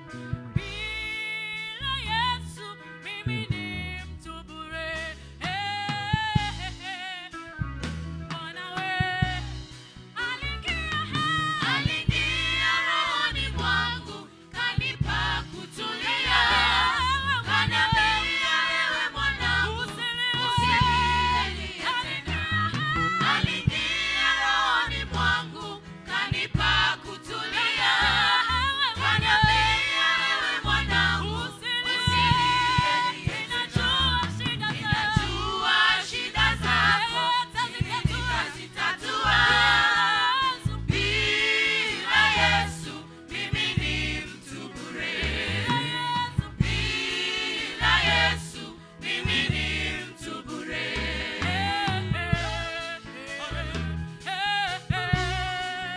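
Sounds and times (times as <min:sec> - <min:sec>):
band with steady bass beat: 0:00.0 - 0:01.2, 0:03.0 - 0:48.6, 0:51.4 - 0:55.9
choir singing: 0:11.0 - 0:55.9.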